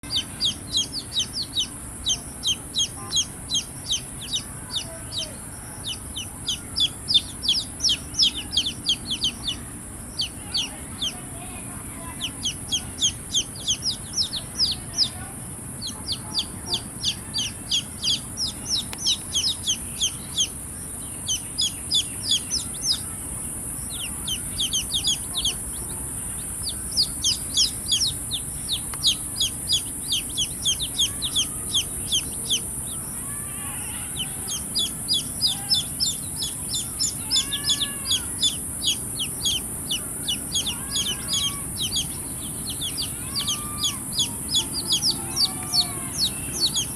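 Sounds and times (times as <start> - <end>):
baby chicks peeping: 0.0 - 46.9
steady high hiss: 0.0 - 46.9.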